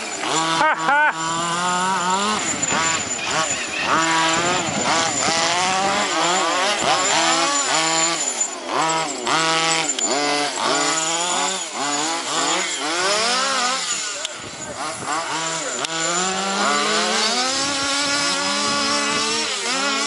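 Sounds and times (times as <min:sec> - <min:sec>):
rc car engines revving: 0:00.0 - 0:20.0.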